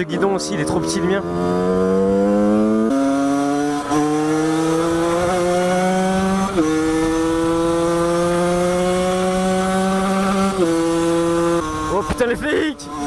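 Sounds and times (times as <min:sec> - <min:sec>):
two-stroke engine accelerating: 0:00.0 - 0:13.0.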